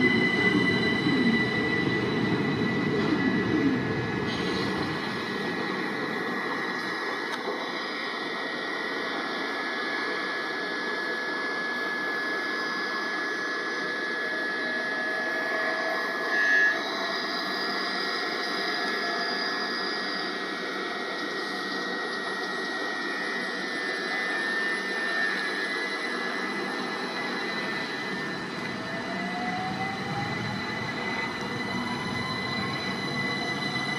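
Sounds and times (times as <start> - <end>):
electric train motor whine: 0.0 - 33.9
train running noise: 0.0 - 33.9.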